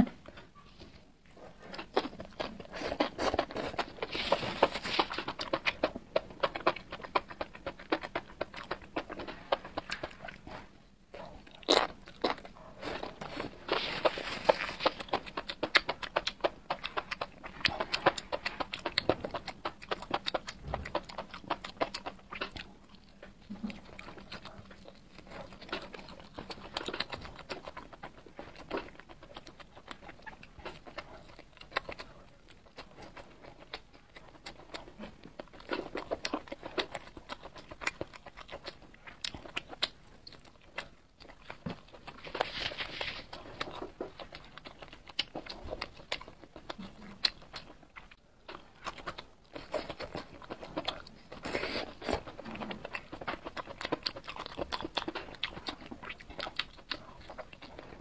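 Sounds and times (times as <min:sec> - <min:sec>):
crunching and chewing food: 0:00.0 - 0:58.0.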